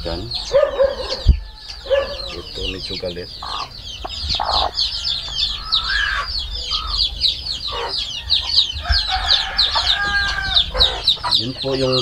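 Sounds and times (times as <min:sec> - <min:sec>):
chickens clucking: 0:00.0 - 0:12.0
rapid high chirps: 0:01.7 - 0:12.0.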